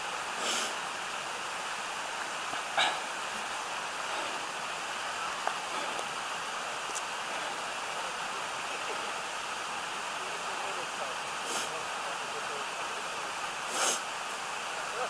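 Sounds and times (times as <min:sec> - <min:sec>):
stream rushing over gravel: 0:00.0 - 0:15.0.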